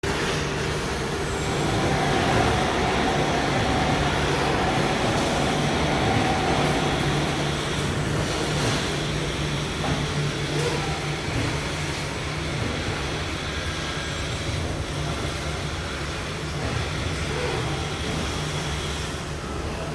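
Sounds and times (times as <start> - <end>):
industrial machine humming: 0.0 - 19.9.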